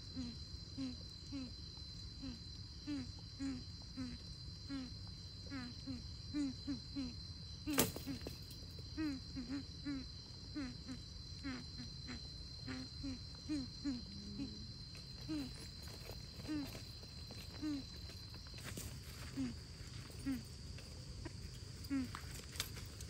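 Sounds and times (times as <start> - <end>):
high insect trill: 0.0 - 23.0.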